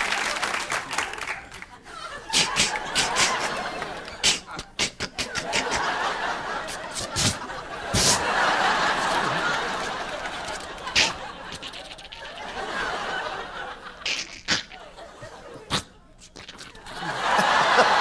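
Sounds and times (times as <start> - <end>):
audience laughing: 0.0 - 16.1, 16.7 - 18.0.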